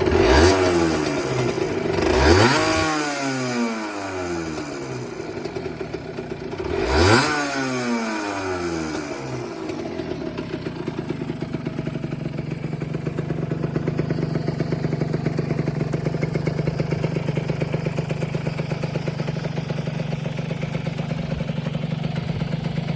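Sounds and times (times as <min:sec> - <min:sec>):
two-stroke engine revving and idling: 0:00.0 - 0:22.9.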